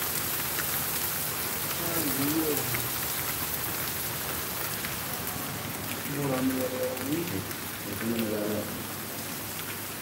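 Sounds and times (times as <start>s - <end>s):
heavy rain on paving and cars: 0.0s - 10.0s.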